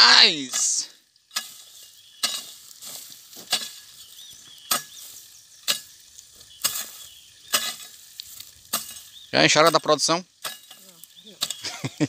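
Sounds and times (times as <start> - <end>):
garden hoe chopping soil: 0.0 - 11.9.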